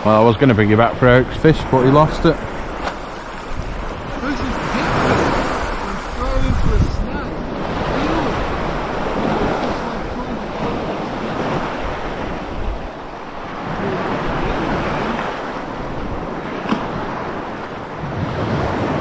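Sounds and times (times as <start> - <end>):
wind buffeting microphone: 0.0 - 19.0
water lapping on pebble beach: 1.7 - 19.0.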